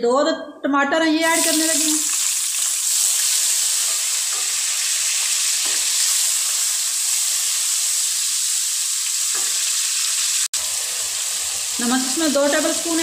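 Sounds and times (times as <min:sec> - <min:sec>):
tomatoes sizzling in hot oil: 0:01.2 - 0:13.0.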